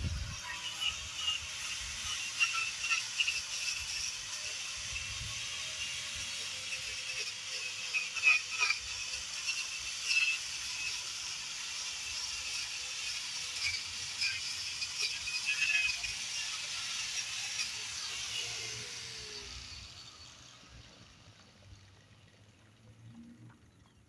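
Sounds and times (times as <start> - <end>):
wire brush grinder on wood: 0.0 - 22.3.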